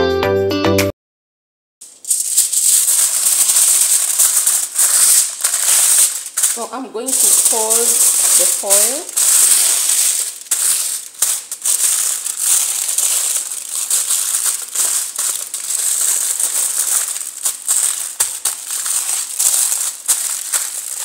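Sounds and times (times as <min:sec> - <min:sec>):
foil and plastic bag crinkling: 0:01.8 - 0:21.0.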